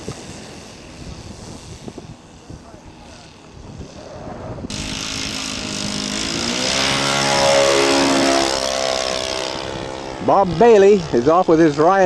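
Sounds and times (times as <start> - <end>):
model plane engine at high throttle: 0.0 - 12.0.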